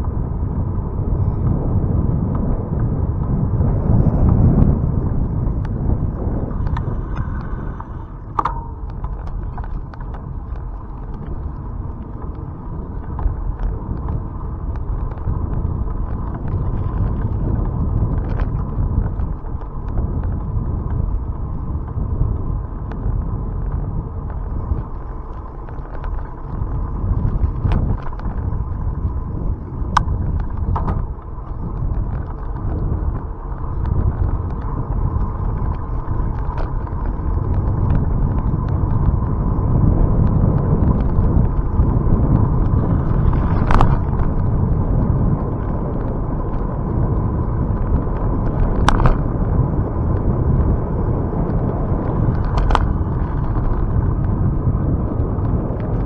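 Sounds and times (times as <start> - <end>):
bicycle clicks and rattles: 0.0 - 56.0
faint steady whine: 0.0 - 56.0
wind buffeting microphone: 0.0 - 56.0.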